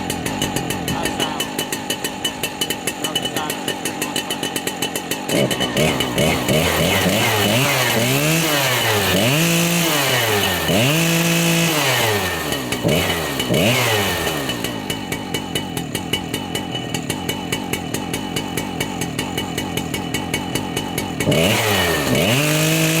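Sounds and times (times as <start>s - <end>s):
chainsaw revving and idling: 0.0s - 23.0s.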